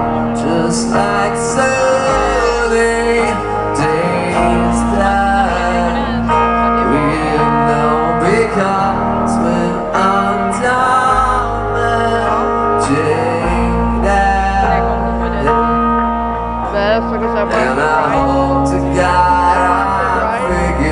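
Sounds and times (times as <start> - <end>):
man singing wordlessly: 0.0 - 15.9, 16.6 - 20.9
rock band playing slow song: 0.0 - 20.9.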